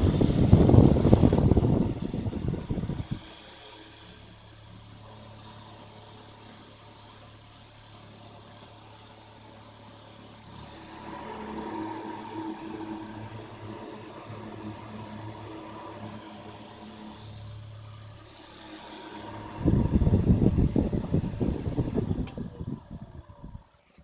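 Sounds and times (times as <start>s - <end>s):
table fan motor running: 0.0s - 24.0s.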